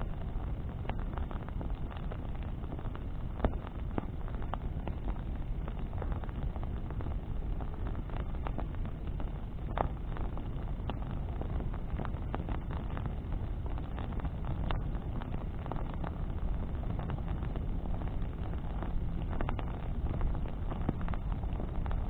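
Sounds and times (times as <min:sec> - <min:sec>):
bonfire crackling: 0:00.0 - 0:22.0
sharp pops and snaps: 0:00.0 - 0:22.0
steady low rumble: 0:00.0 - 0:22.0.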